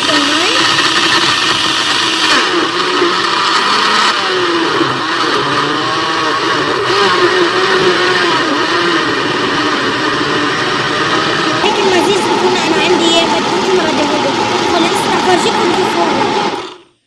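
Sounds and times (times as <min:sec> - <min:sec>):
blender running: 0:00.0 - 0:17.0.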